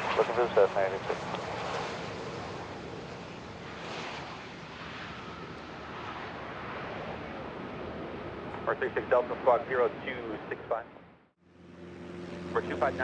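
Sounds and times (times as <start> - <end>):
jet aircraft engines rushing: 0.0 - 13.0.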